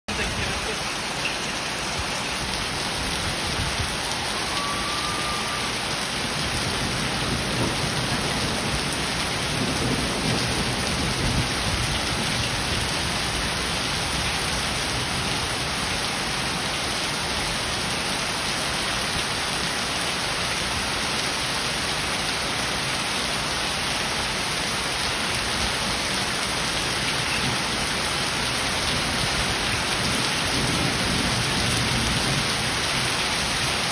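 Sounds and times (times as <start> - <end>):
heavy rain and hail on pavement: 0.1 - 33.9.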